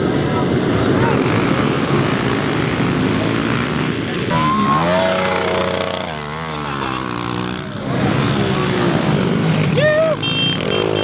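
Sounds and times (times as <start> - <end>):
pit bike engines revving: 0.0 - 11.0.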